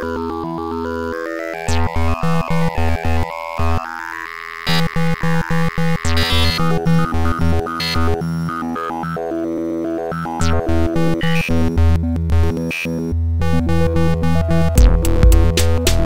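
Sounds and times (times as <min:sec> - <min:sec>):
electronic synthesizer music: 0:00.0 - 0:16.0.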